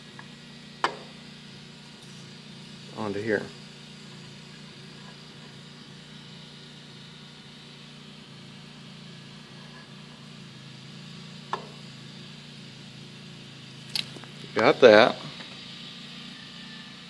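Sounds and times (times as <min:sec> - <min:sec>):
low hum of workshop: 0:00.0 - 0:17.0.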